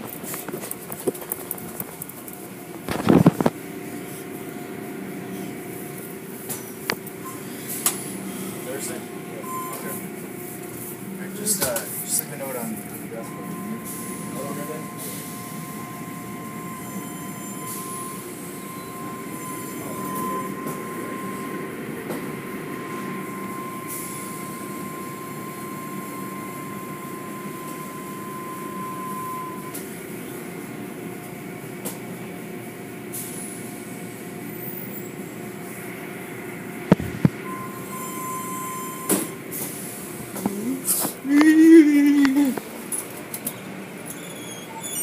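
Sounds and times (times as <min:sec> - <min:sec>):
steady high whine: 0:00.0 - 0:44.2.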